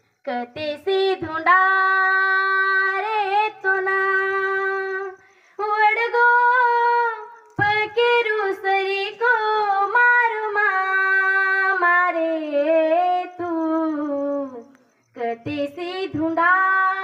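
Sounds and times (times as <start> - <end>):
woman singing folk song: 0.2 - 17.0.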